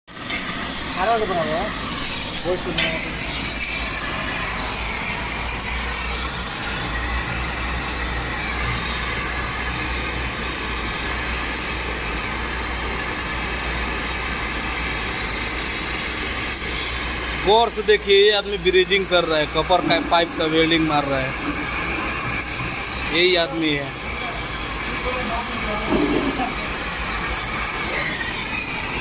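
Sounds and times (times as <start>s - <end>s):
torch flame hissing: 0.1s - 29.0s.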